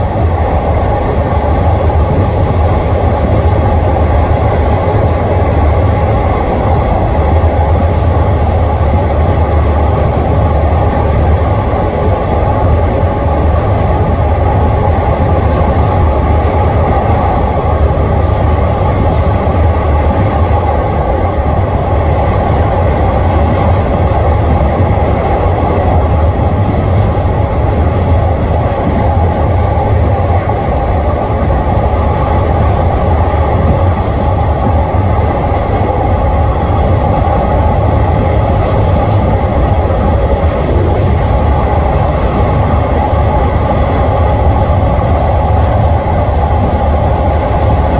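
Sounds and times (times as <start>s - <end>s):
train wheels rushing on rails: 0.0s - 47.9s.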